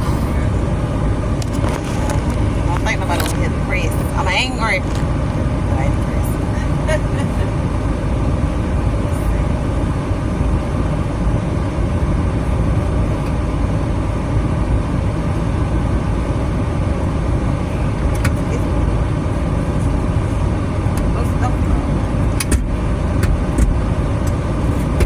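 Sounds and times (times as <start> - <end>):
motor vehicle rumbling: 0.0 - 25.0.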